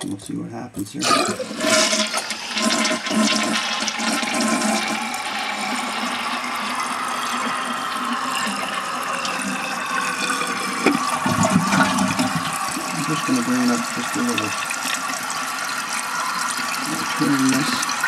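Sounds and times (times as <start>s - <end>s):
toilet flushing: 0.8s - 18.0s.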